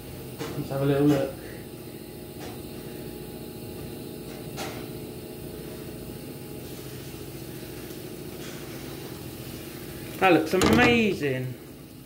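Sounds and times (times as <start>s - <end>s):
appliance fan humming: 0.0s - 12.0s.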